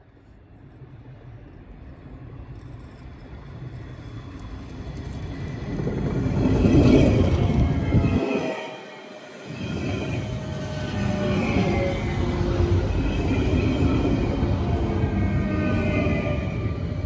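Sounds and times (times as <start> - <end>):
train rolling rumble: 0.0 - 17.0.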